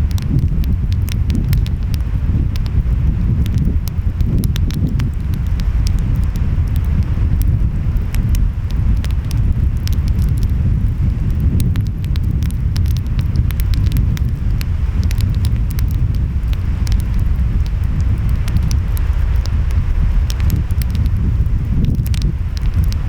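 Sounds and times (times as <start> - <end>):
wind: 0.0 - 23.0
wood fire crackling: 0.0 - 23.0.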